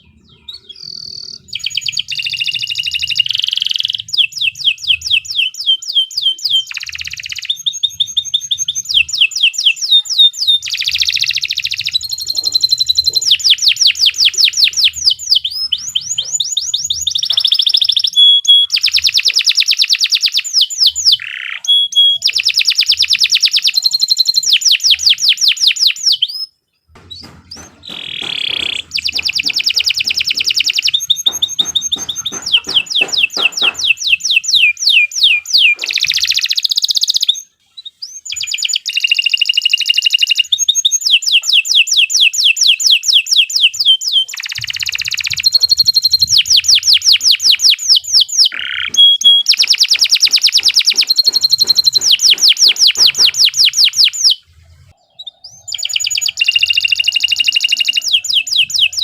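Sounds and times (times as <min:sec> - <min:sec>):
canary singing rapid trills: 0:00.0 - 0:59.0.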